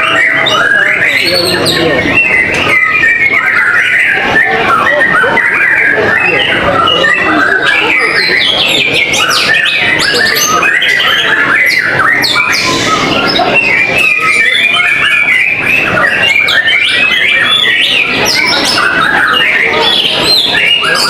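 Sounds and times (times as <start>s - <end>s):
birds singing rapid whistles: 0.0s - 21.0s.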